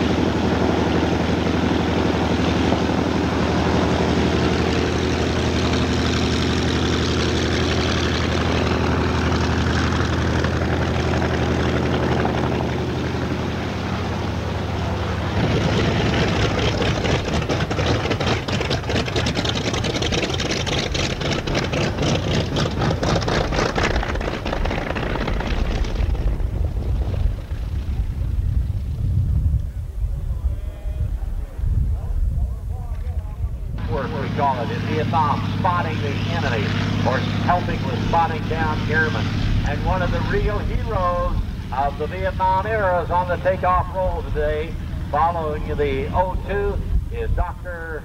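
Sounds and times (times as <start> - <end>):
radial aircraft engine droning: 0.0 - 28.0, 29.6 - 48.0.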